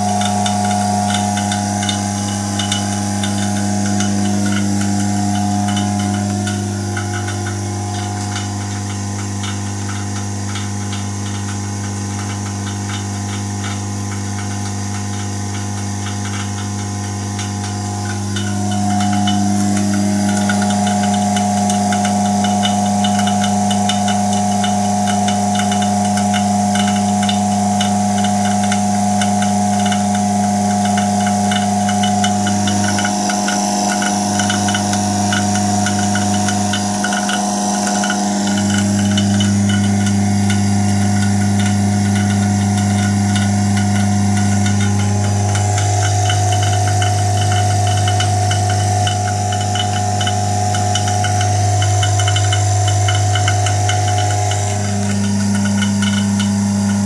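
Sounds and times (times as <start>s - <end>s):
loud electrical hum: 0.0s - 57.0s
rasping buzz: 0.0s - 57.0s.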